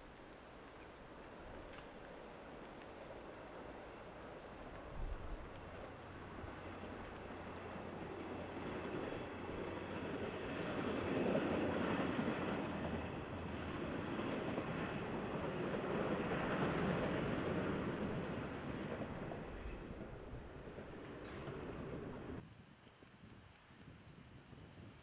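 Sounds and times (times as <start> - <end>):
railcar engine and wheels rumbling: 0.0 - 22.7.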